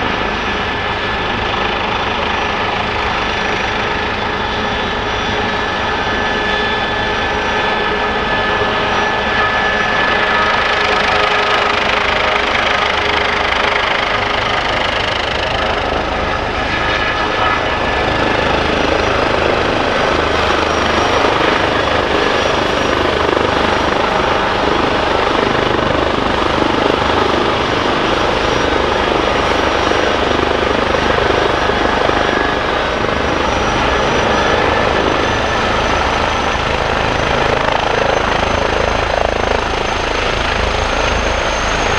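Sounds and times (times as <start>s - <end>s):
helicopter rotor and engine: 0.0s - 41.9s
high turbine whine: 0.0s - 41.9s.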